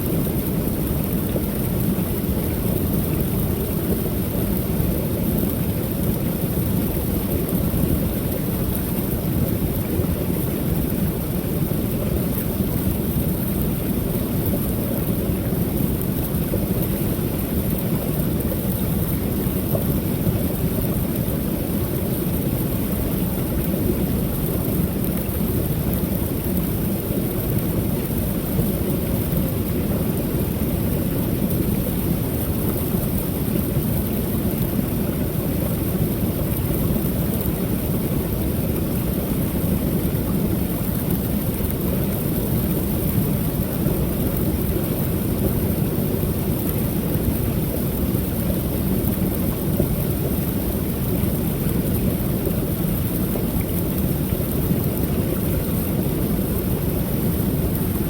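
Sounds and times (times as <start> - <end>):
waterfall: 0.0 - 58.0.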